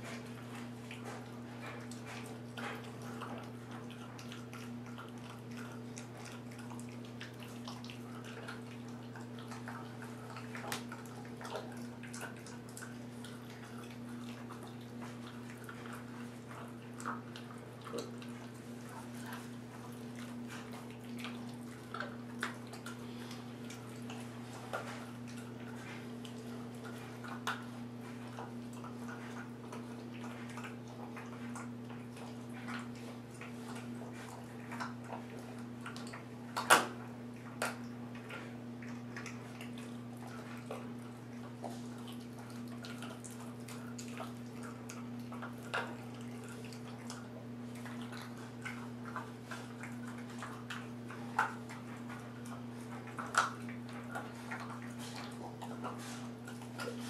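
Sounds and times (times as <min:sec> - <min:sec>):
puppy chewing and licking: 0:00.0 - 0:57.0.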